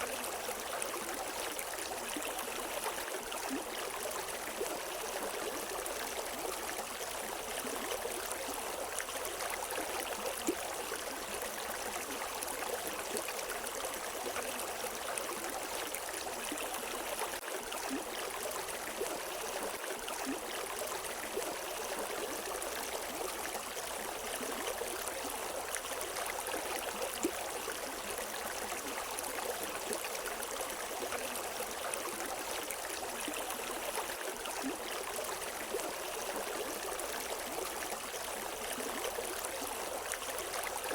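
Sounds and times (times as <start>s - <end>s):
river water flowing and splashing: 0.0s - 40.9s.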